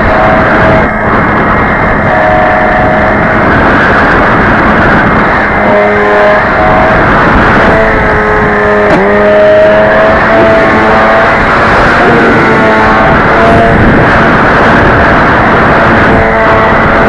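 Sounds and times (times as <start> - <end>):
loud steady rushing noise: 0.0 - 17.0
model plane motor whining: 0.0 - 17.0.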